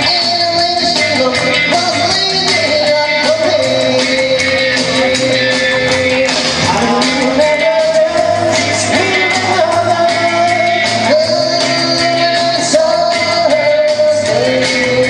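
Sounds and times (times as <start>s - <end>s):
rock and roll song with singing: 0.0s - 15.0s.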